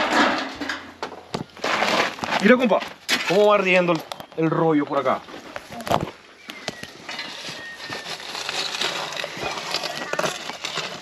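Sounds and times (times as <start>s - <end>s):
embers being raked: 0.0s - 11.0s.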